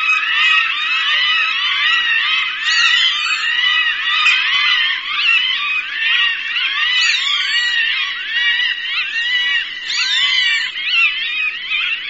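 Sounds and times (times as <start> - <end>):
hawk cries: 0.0 - 12.0.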